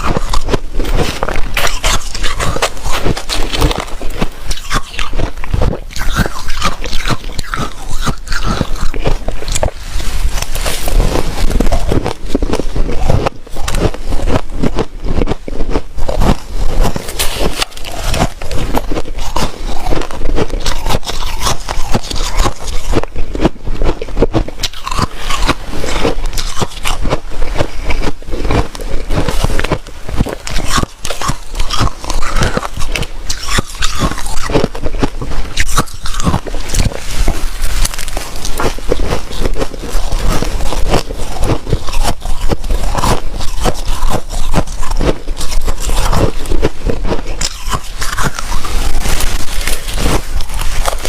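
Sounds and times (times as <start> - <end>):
crunchy ice being chewed: 0.0 - 51.0.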